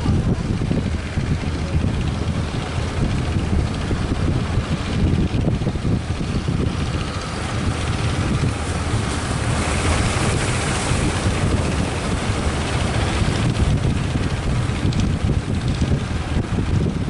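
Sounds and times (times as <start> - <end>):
boat noise: 0.0 - 17.0
waves: 0.0 - 17.0
wind buffeting microphone: 0.0 - 17.0.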